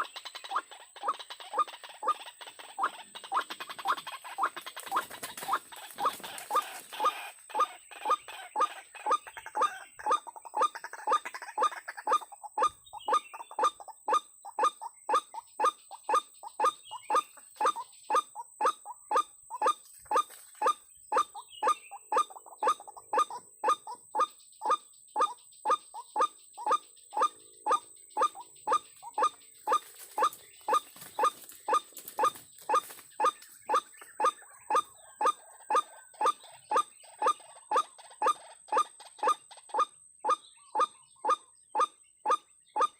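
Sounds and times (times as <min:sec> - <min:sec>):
waterhen calling: 0:00.0 - 0:42.9.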